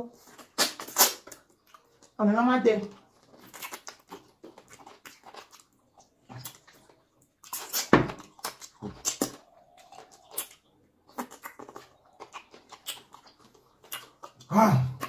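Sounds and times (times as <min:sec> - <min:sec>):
wet smacking and chewing: 0:00.2 - 0:02.2, 0:02.9 - 0:15.0.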